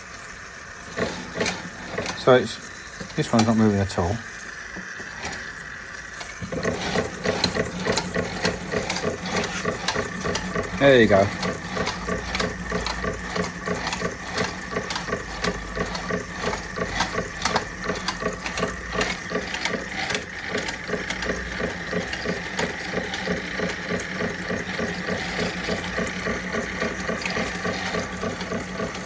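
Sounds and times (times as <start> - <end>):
toy steam engine mechanical clatter: 0.0 - 29.0.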